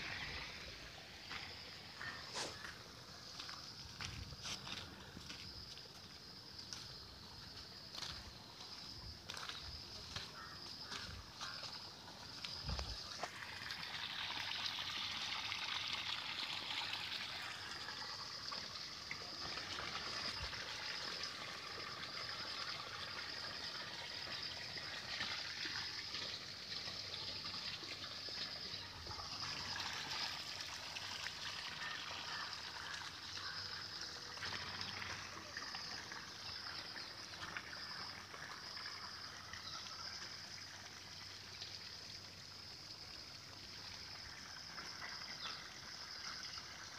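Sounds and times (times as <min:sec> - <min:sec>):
floodwater trickling and rushing: 0:00.0 - 0:46.9.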